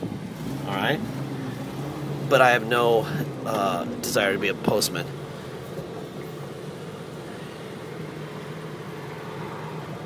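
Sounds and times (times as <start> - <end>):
car engine drone from cabin: 0.0 - 10.0
road noise: 0.0 - 10.0.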